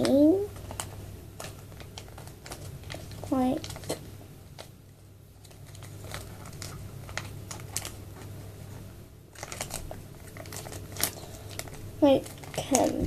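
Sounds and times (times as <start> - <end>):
paper rustling and crinkling: 0.0 - 4.8, 5.4 - 13.0.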